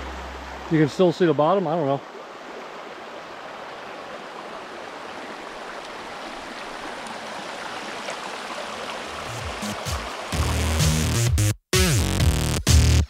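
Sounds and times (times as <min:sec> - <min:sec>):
creek flowing over stones: 0:00.0 - 0:11.2.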